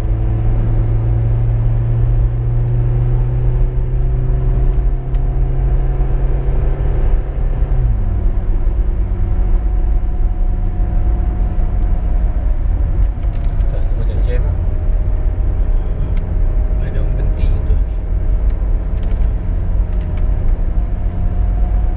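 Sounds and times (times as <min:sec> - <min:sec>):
car engine: 0:00.0 - 0:21.9
road rumble: 0:00.0 - 0:21.9.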